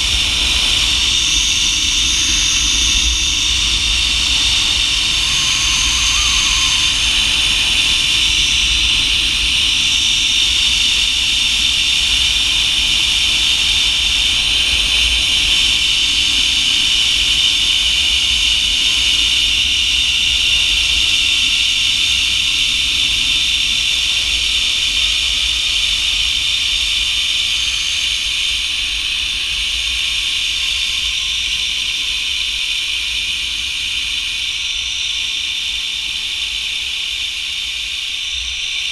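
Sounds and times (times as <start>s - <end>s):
wind rumble on microphone: 0.0s - 31.5s
zipline pulleys whirring: 0.0s - 38.9s.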